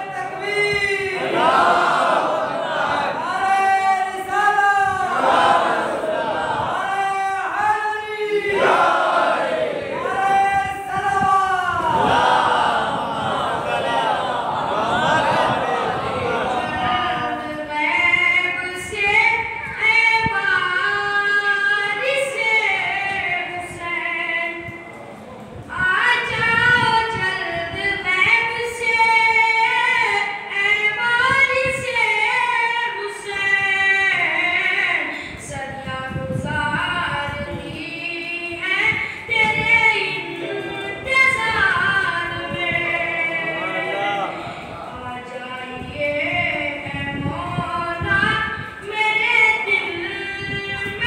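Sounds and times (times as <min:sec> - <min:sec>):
boy chanting into a microphone: 0:00.0 - 0:51.0.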